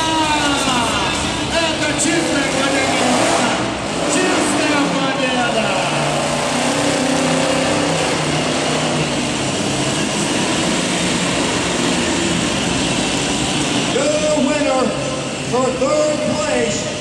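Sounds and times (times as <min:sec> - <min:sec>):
monster truck engines running: 0:00.0 - 0:17.0.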